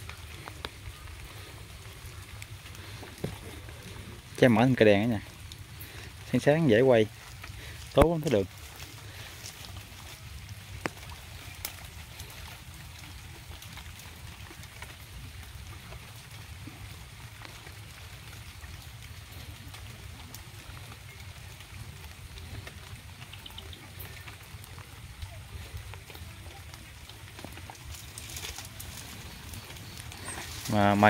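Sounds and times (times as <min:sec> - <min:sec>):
rain hissing: 0:00.0 - 0:31.0.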